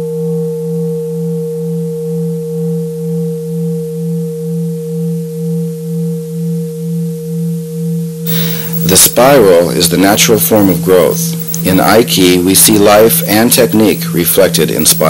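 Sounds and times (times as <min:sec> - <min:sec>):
pulsing low ringing drone: 0:00.0 - 0:15.0.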